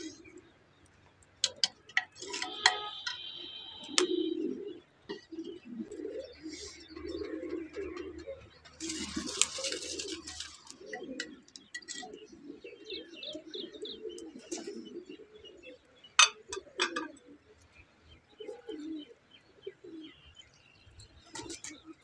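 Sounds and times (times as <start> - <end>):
doves cooing: 0.0 - 22.0
small birds chirping: 0.0 - 22.0.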